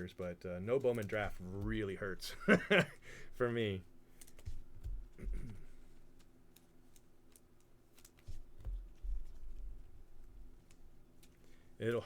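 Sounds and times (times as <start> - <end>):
cards handled on a table: 0.2 - 2.3, 3.6 - 11.7.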